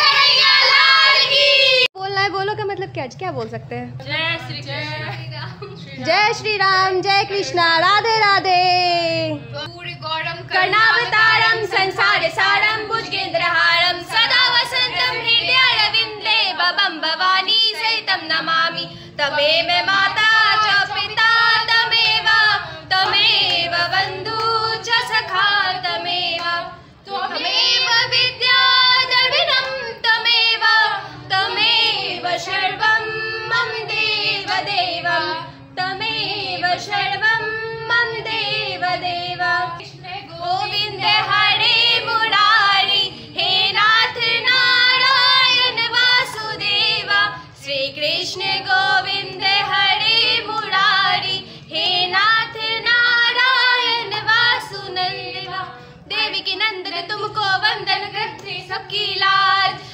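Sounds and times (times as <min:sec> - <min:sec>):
women singing a hymn together: 0:00.0 - 0:02.0, 0:09.3 - 0:59.9.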